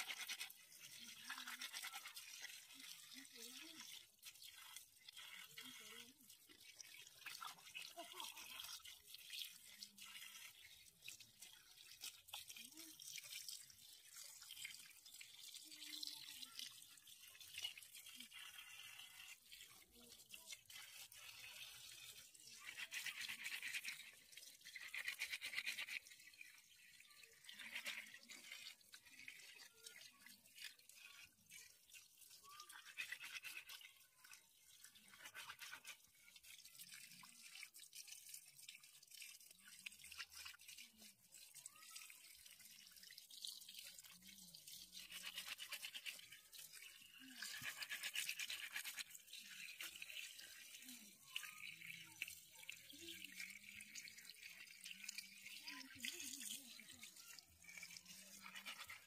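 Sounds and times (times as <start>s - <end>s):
running water stream: 0.0s - 59.0s.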